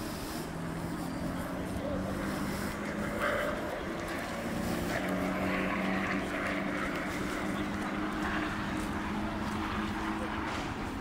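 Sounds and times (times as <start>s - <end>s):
low engine hum: 0.0s - 11.0s
outdoor background noise: 0.0s - 11.0s.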